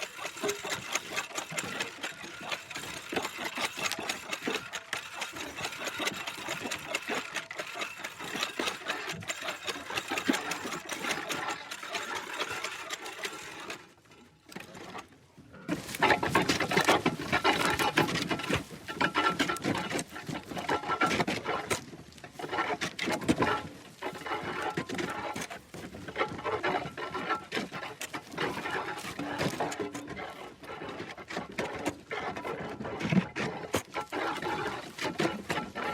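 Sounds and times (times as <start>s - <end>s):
creaky wheel turning: 0.0s - 35.9s.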